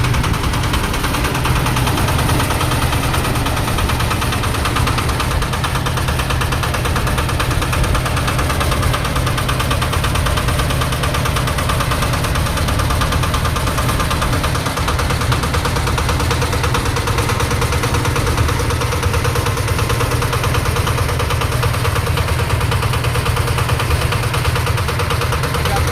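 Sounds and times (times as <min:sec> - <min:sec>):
concrete mixer running: 0:00.0 - 0:25.9
diesel engine knocking: 0:00.0 - 0:25.9.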